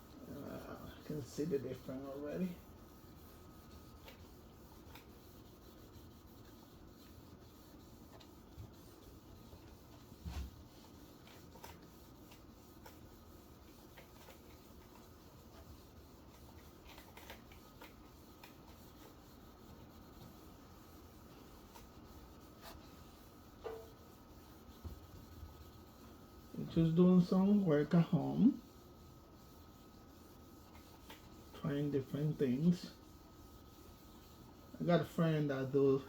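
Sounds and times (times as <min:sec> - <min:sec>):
faint rubbing: 0:00.0 - 0:36.0.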